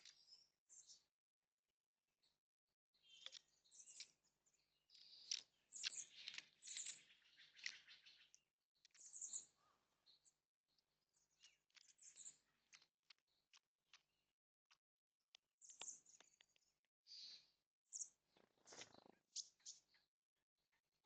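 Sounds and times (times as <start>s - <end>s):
scratchy bird chirps and clicks: 0.0s - 1.1s, 2.2s - 20.1s.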